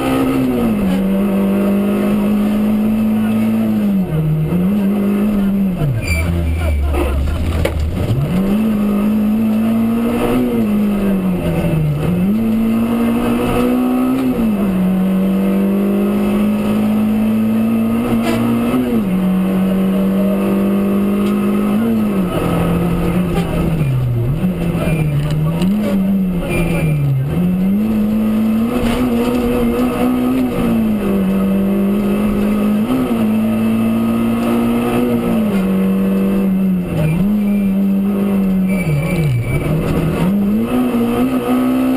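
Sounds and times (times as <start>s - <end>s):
rally car engine revving: 0.0s - 41.9s.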